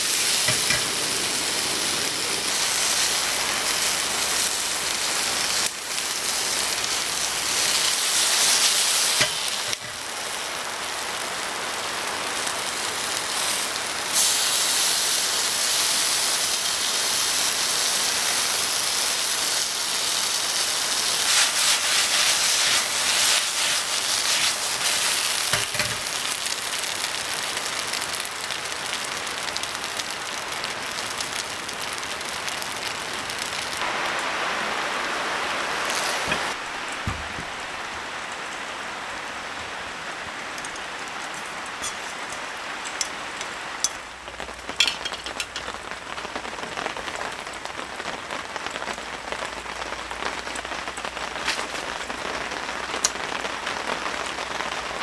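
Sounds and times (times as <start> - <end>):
food sizzling in a frying pan: 0.0 - 37.2, 40.5 - 47.5
rain falling: 0.0 - 55.0.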